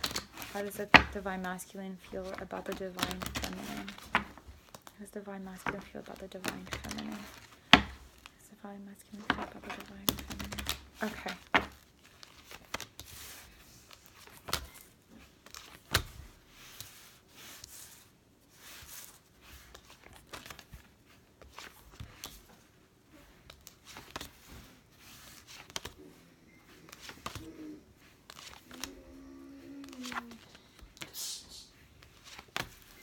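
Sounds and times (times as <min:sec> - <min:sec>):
cards rustling: 0:00.0 - 0:31.2, 0:31.8 - 0:33.0.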